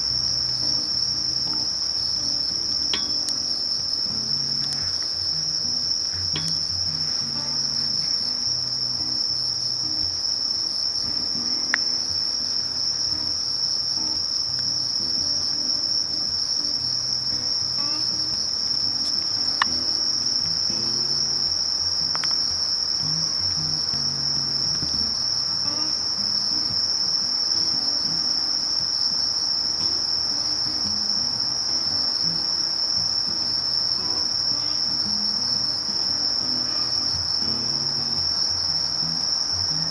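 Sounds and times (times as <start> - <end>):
katydid high-pitched trill: 0.0 - 39.9.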